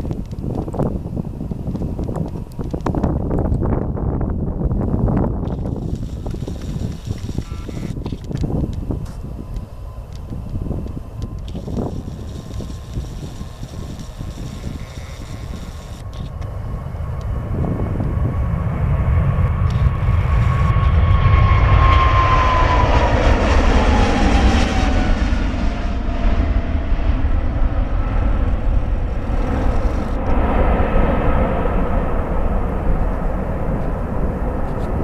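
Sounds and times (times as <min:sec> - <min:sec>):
jet aircraft taking off: 0:00.0 - 0:35.0.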